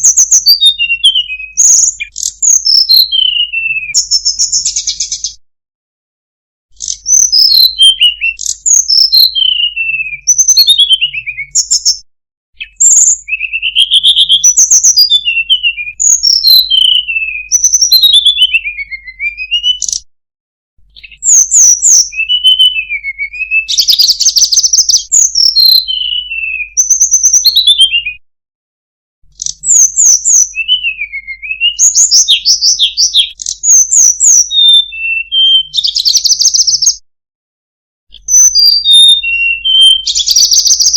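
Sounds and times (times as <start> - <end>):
bird singing whistled notes: 0.0 - 5.4, 6.8 - 12.0, 12.6 - 20.1, 20.9 - 28.2, 29.3 - 37.0, 38.1 - 40.9.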